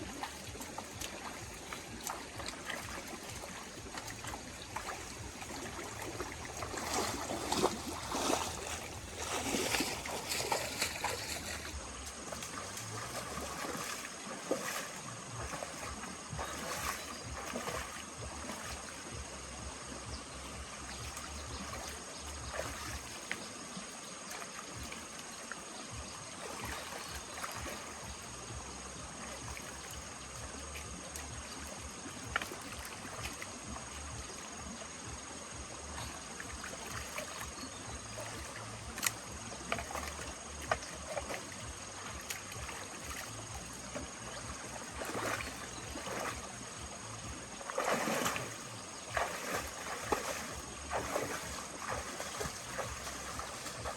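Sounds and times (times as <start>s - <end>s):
water sloshing and splashing: 0.0s - 53.9s.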